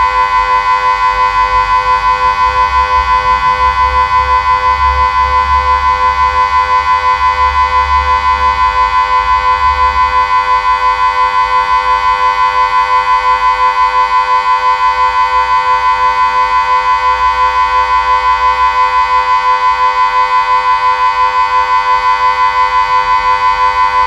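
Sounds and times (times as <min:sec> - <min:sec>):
pulsing civil defence siren tone: 0:00.0 - 0:24.0.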